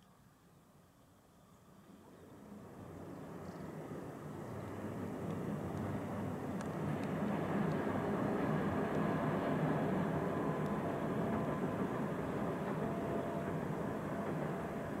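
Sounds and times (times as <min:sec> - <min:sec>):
distant train rumble: 0:01.6 - 0:15.0.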